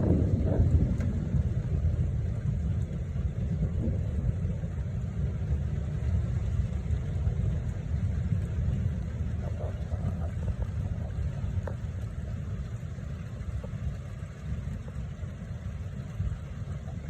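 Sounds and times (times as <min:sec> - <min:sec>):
thunderstorm rumble: 0:00.0 - 0:17.0
wind buffeting microphone: 0:00.0 - 0:17.0.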